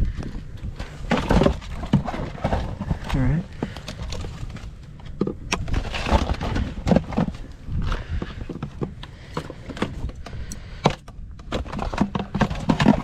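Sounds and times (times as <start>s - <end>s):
plastic decoys clattering together: 0.8s - 13.0s.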